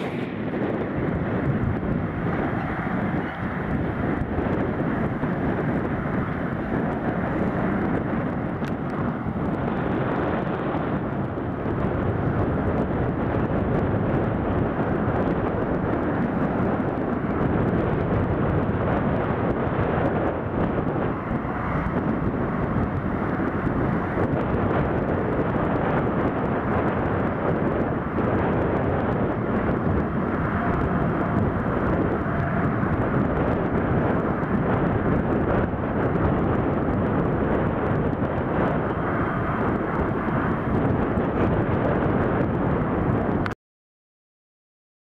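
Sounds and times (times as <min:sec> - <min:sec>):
tractor diesel engine droning: 0:00.0 - 0:43.2.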